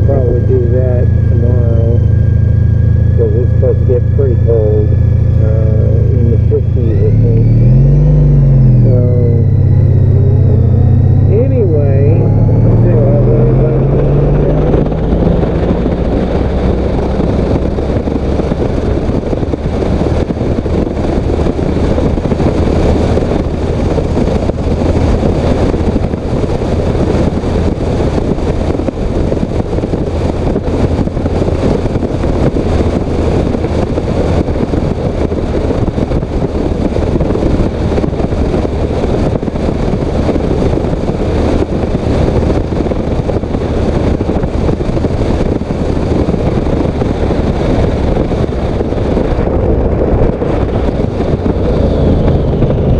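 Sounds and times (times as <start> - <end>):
motorcycle engine running: 0.0 - 52.9
wind buffeting microphone: 0.0 - 52.9.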